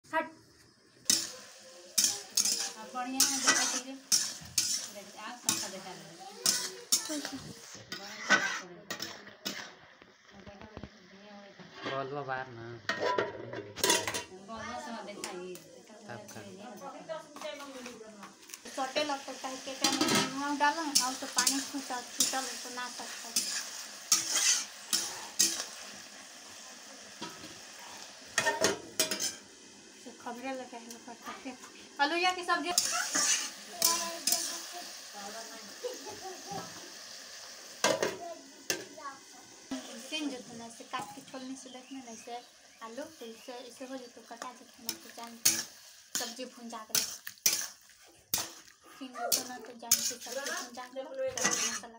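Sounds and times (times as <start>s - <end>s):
frying sizzle: 0.0s - 51.9s
metal spatula scraping wok: 1.1s - 9.9s, 11.6s - 12.2s, 12.9s - 14.4s, 17.4s - 29.6s, 30.5s - 36.8s, 39.7s - 51.9s.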